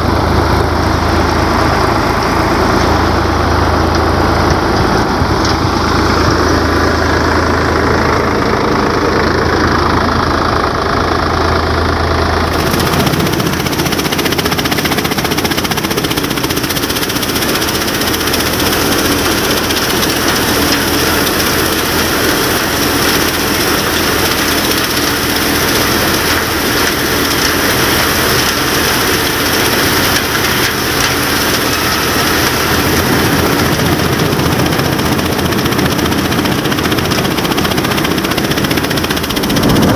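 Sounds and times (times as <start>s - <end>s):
thresher drum rushing noise: 0.0s - 39.9s
tractor diesel engine drone: 0.0s - 39.9s.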